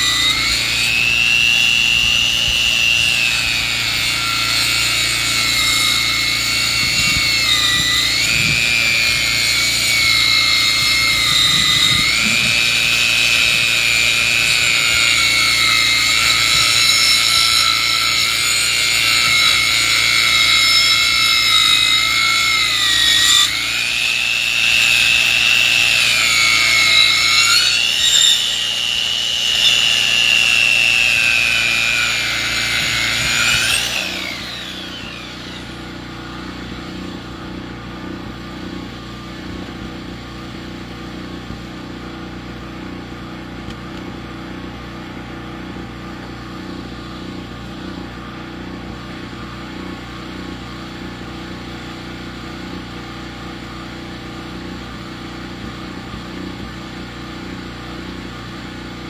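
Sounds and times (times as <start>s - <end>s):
sawmill saw whining through log: 0.0s - 59.0s.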